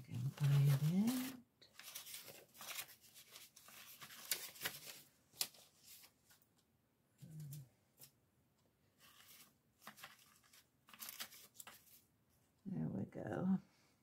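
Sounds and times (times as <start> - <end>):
paper rustling: 0.0 - 8.2, 8.9 - 12.1.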